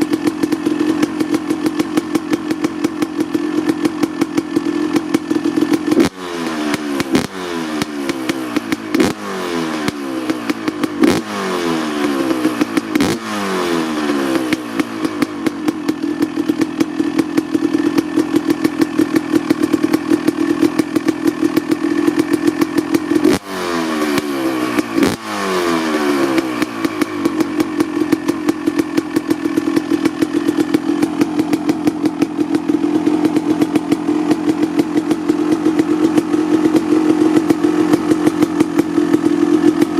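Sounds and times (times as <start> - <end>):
engine throttle blips: 0.0 - 39.9
two-stroke engine popping idle: 0.0 - 39.9.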